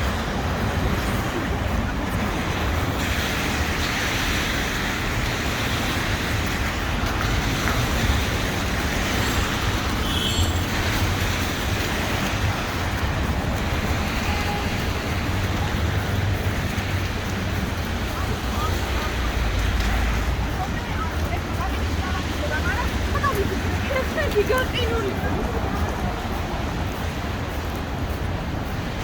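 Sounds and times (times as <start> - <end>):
passing cars hum: 0.0 - 29.0.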